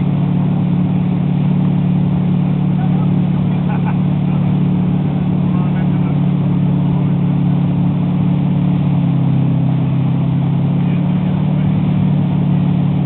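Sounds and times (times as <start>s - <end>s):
motorboat engine humming: 0.0s - 13.0s
wake water rushing: 0.0s - 13.0s.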